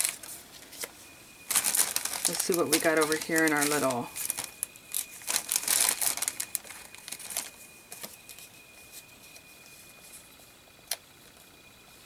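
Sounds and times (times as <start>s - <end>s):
paper and craft supplies rustling: 0.0s - 10.5s.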